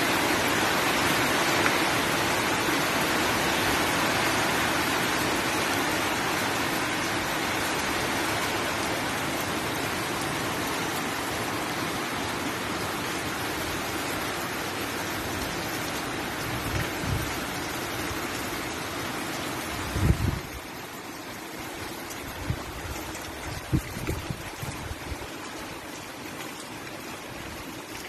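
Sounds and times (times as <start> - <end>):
heavy rain pouring on water and roof: 0.0 - 28.0.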